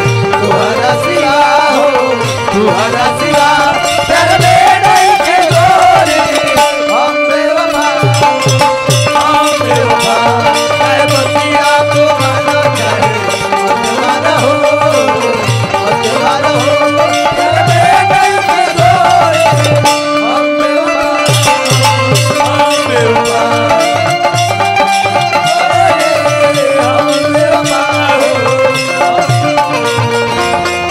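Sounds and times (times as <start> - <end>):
hand drum beat: 0.0 - 30.9.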